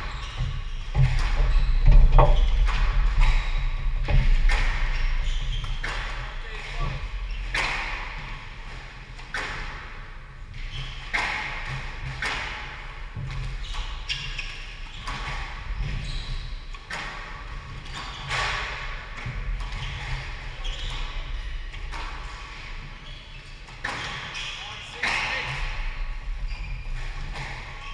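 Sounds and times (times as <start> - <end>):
shoes squeaking on wooden floor: 0.0 - 8.0, 13.4 - 27.9.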